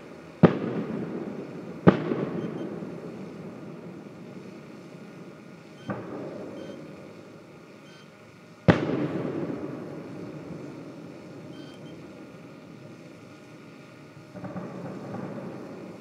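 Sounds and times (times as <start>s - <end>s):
distant fireworks bangs: 0.4s - 8.0s, 8.6s - 13.0s, 14.3s - 16.0s.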